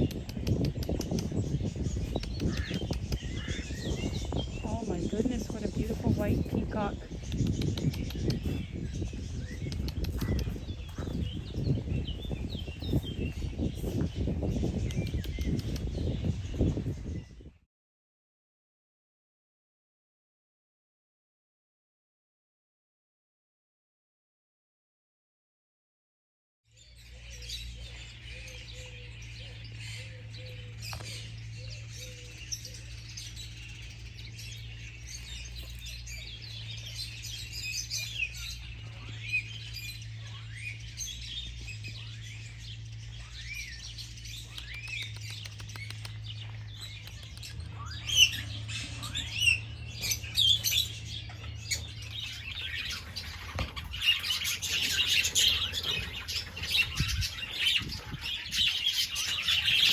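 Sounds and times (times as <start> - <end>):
small birds chirping and twittering: 0.0 - 17.7, 26.7 - 59.9.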